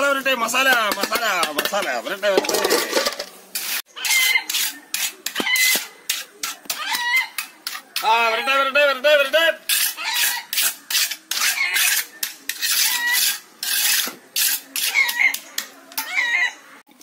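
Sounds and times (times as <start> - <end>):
trowel scraping wet concrete: 0.4 - 8.6, 9.6 - 16.1.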